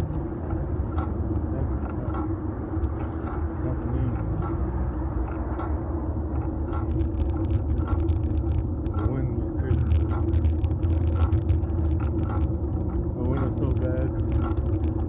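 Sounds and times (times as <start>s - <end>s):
small ticks and rattles: 0.0s - 3.6s, 5.3s - 15.0s
steady hum: 0.0s - 15.0s
tyre and wind rumble: 0.0s - 15.0s.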